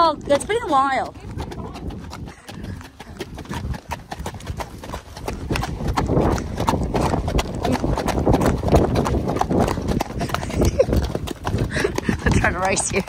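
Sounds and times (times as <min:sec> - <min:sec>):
fast hoofbeats on a track: 0:00.0 - 0:13.0.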